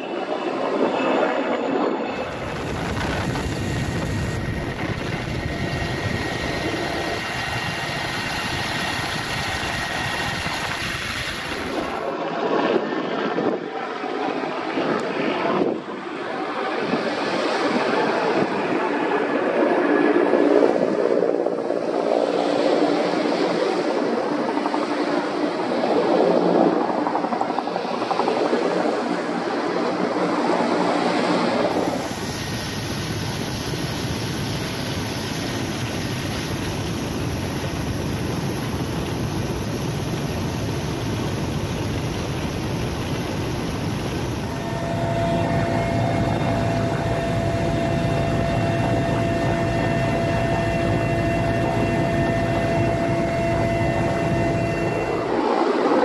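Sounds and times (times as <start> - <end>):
helicopter engines and rotor rushing: 0.0 - 56.0
high turbine whine: 0.0 - 56.0.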